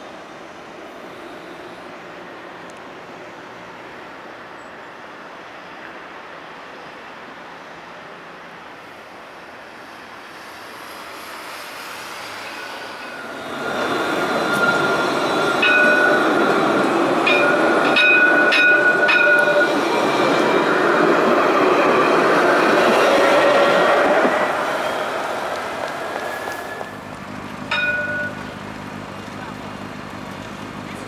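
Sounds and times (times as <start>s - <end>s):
tram passing on rails: 0.0s - 31.0s.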